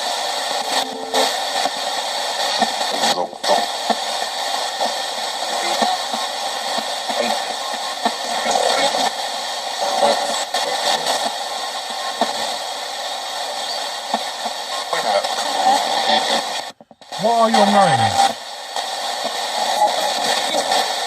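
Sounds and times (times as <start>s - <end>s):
fragments of radio sound: 0.0s - 21.0s
radio clicks: 0.0s - 21.0s
radio static hiss: 0.0s - 21.0s.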